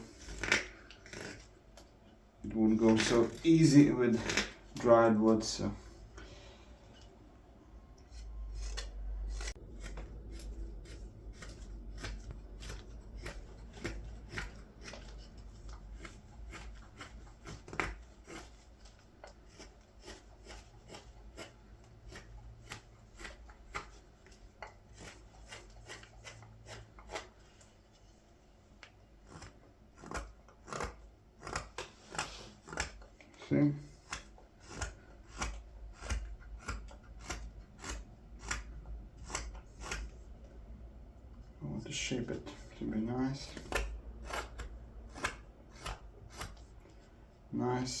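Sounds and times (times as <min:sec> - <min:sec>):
blade carving wood: 0:00.0 - 0:07.1, 0:07.7 - 0:40.8, 0:41.4 - 0:47.8.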